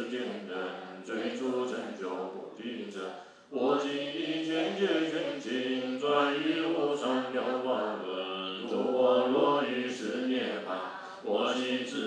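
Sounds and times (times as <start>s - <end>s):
group chanting in unison: 0.0s - 12.0s.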